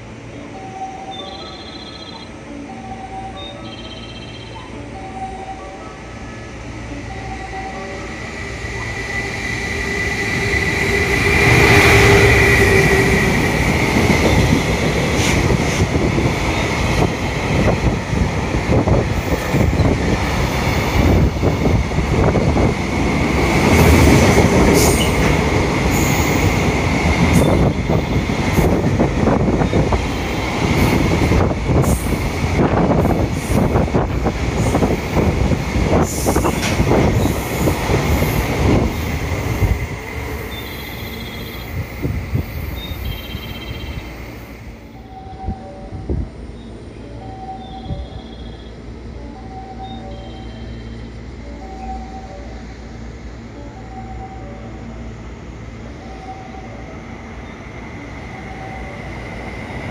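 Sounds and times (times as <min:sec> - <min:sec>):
train passing on rails: 0:00.0 - 0:59.9.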